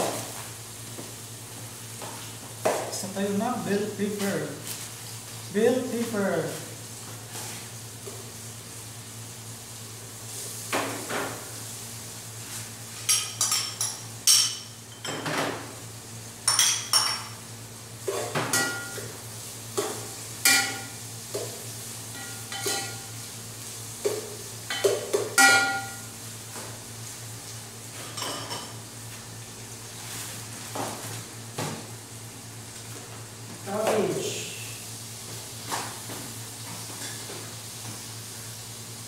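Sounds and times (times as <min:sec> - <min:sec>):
aromatics frying: 0:00.0 - 0:39.0.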